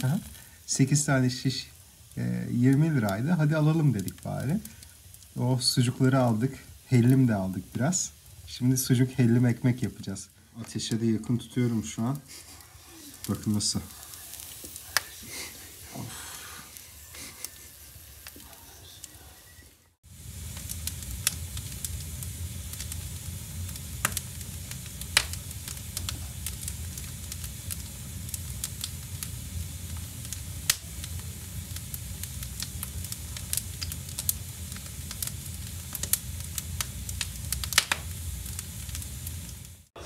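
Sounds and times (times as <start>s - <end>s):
sausage sizzling: 0.0s - 40.0s
wood fire crackling: 0.0s - 40.0s.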